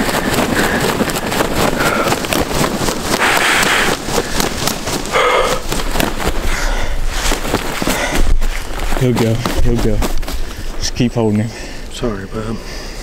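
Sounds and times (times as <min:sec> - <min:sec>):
turkey wings flapping: 0:00.0 - 0:10.9.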